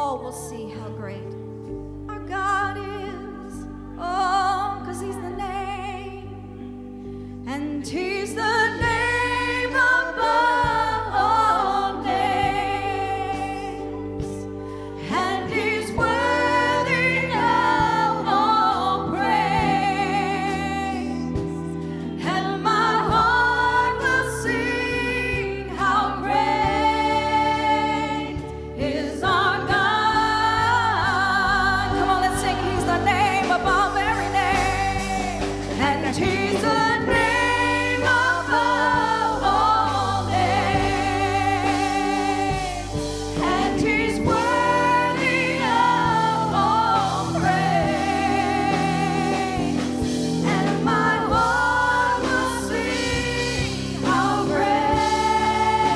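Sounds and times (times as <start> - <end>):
bass line: 0.0 - 55.9
gospel singers with vibrato: 0.0 - 55.9
sustained keyboard chords: 0.0 - 55.9.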